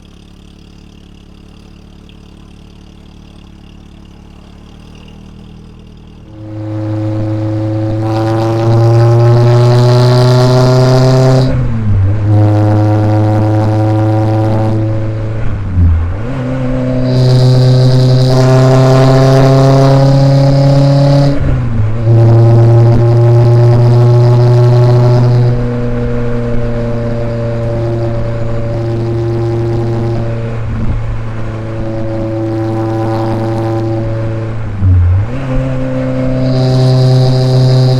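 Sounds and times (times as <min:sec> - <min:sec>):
car engine revving through gears: 0:01.0 - 0:37.9.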